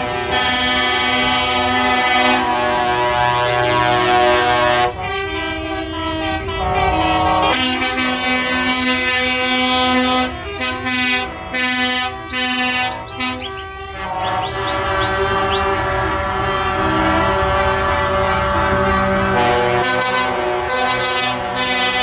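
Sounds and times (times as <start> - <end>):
truck air horns blasting: 0.0 - 22.0.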